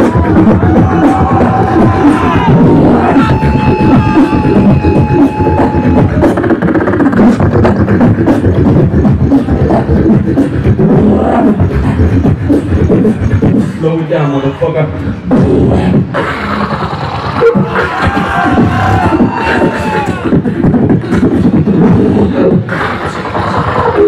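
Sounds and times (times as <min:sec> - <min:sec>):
beatboxing through microphone: 0:00.0 - 0:24.0.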